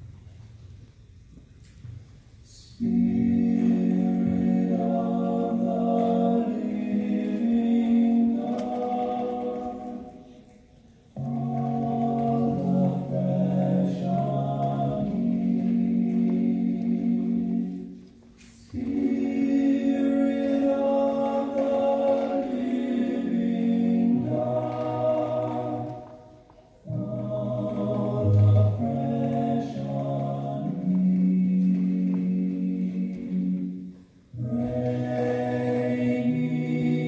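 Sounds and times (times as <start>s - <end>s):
vocal group singing in harmony: 2.5s - 37.0s.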